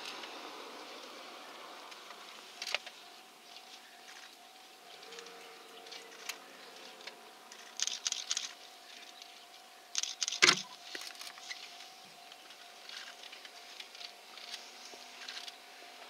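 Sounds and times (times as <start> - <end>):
faint steady tone: 0.0 - 16.0.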